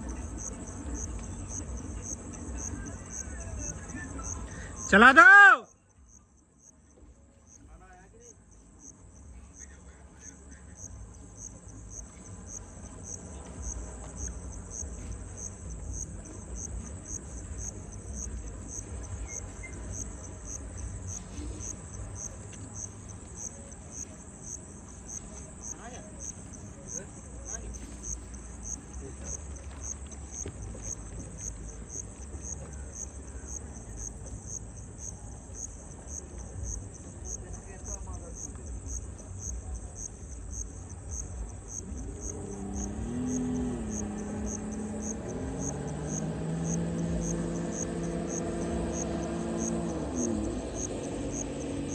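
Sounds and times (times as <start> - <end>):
insects trilling: 0.0 - 6.8, 7.5 - 51.9.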